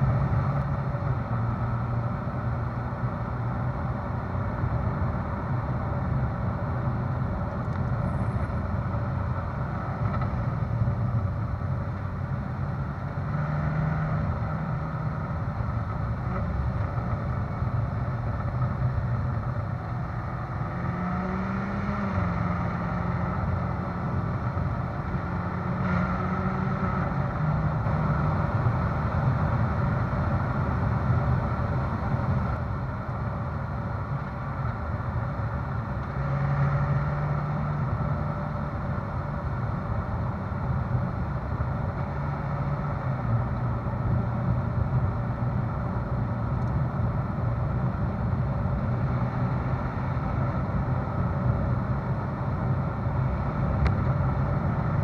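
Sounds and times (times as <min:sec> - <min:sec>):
car engine exhaust cruising: 0:00.0 - 0:55.0
tyre and road noise: 0:00.0 - 0:55.0.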